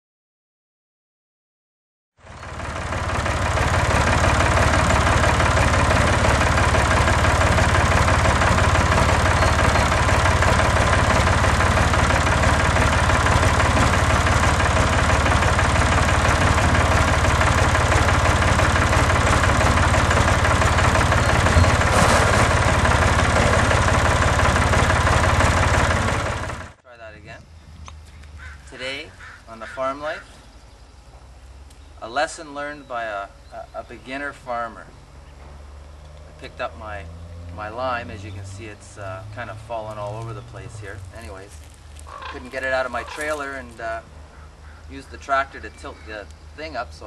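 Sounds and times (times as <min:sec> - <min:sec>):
motor engine idling: 0:02.2 - 0:26.8, 0:32.8 - 0:46.7.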